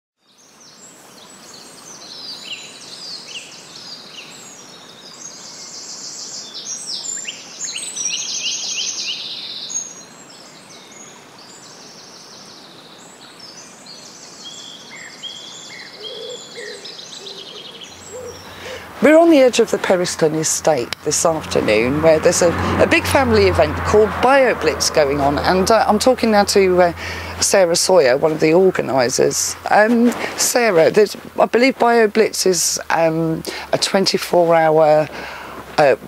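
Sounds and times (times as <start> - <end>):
songbirds singing: 0.2 - 36.0
steady outdoor hiss: 0.2 - 36.0.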